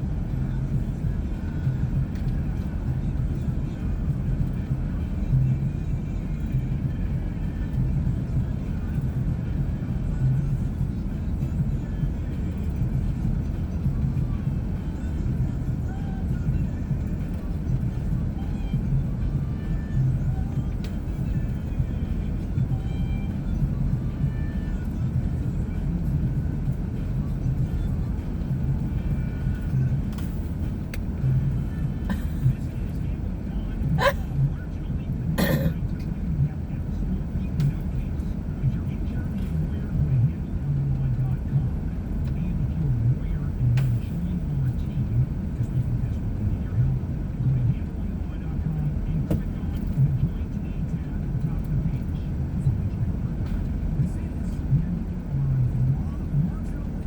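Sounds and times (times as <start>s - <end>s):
vehicle engine and tyres rumbling: 0.0s - 57.0s.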